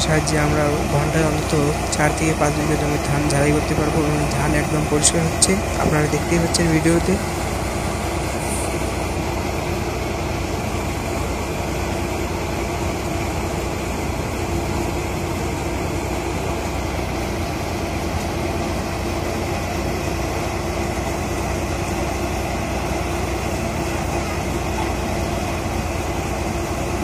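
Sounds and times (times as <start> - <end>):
threshing machine droning: 0.0 - 27.0.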